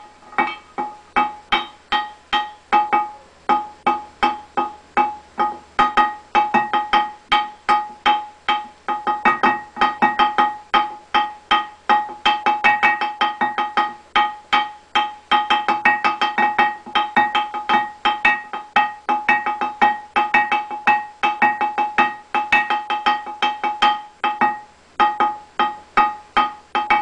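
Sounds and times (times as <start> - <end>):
plucked pitched notes: 0.0 - 27.0.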